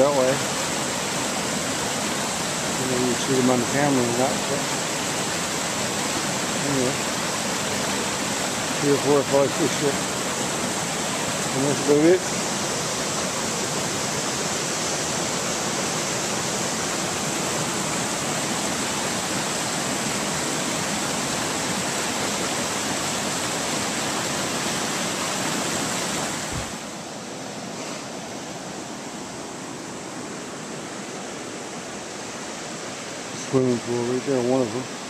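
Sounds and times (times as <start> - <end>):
river rushing over rapids: 0.0 - 35.0.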